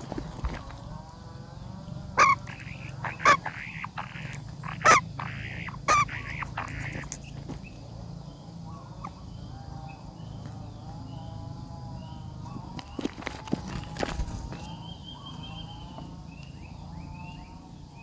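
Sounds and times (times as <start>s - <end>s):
nestlings begging calls: 0.0s - 18.0s.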